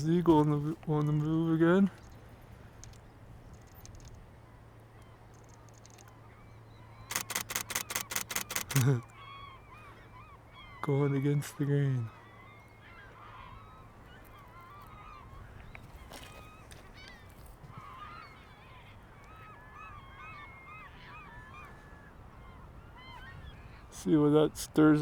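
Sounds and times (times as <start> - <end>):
low steady background noise: 0.0 - 25.0
waterbirds calling: 0.0 - 25.0.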